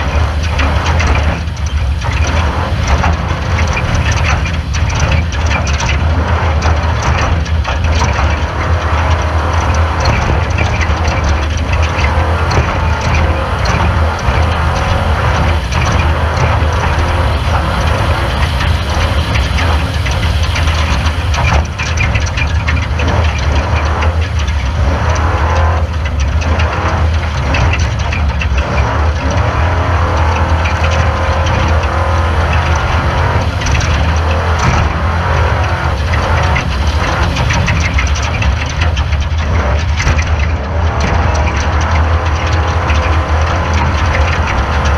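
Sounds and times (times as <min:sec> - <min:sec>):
race car engine running hard: 0:00.0 - 0:44.9
rattles and knocks: 0:00.0 - 0:44.9.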